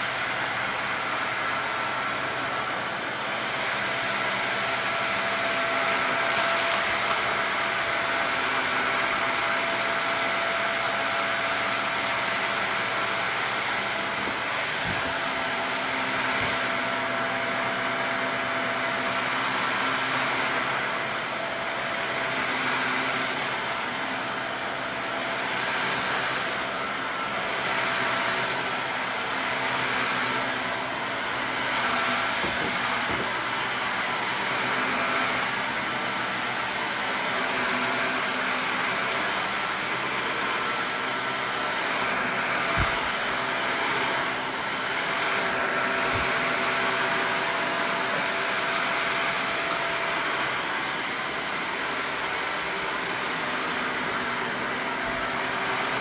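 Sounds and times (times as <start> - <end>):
vacuum cleaner on carpet: 0.0 - 56.0.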